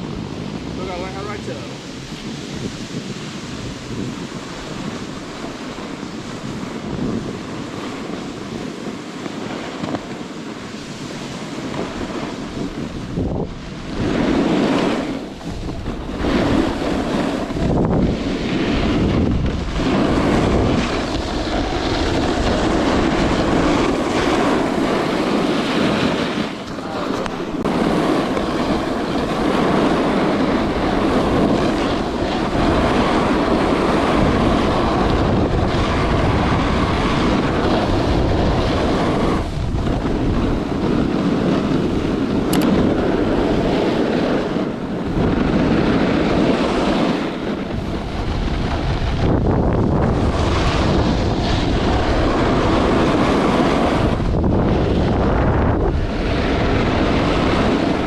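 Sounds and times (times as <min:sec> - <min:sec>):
snowboard sliding on snow: 0:00.0 - 0:58.0
wind on microphone: 0:00.0 - 0:58.0.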